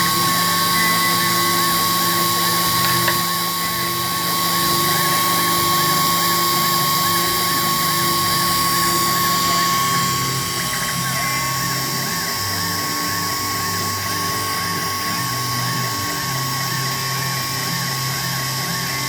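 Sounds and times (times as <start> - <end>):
mill spindle high whine: 0.0 - 19.0.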